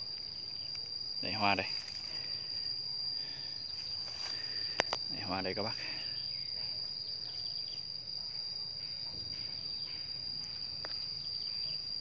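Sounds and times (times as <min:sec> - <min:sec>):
insect high-pitched trill: 0:00.0 - 0:12.0.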